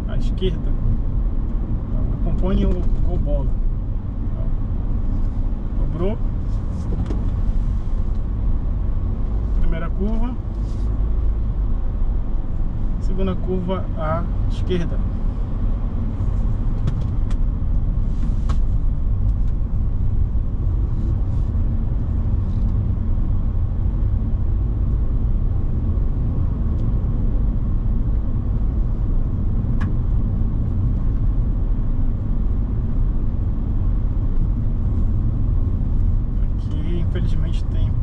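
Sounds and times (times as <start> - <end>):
car road and engine rumble: 0.0 - 38.0.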